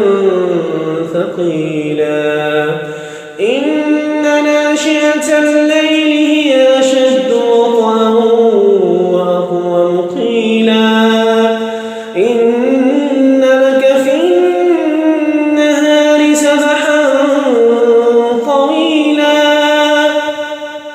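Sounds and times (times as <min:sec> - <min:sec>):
man reciting melodically: 0:00.0 - 0:20.9.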